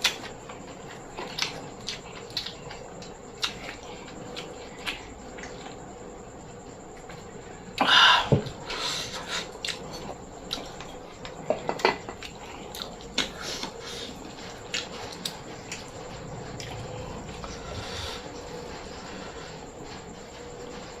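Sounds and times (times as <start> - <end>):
chewing with crunches: 0.0 - 5.9, 9.0 - 20.1.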